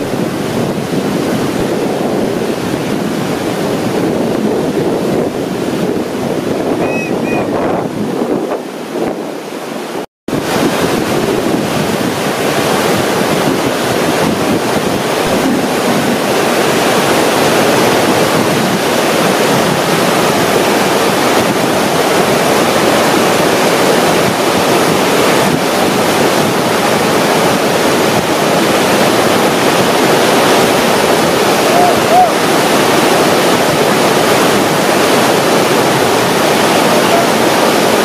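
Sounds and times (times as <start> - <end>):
whitewater rushing: 0.0 - 38.0.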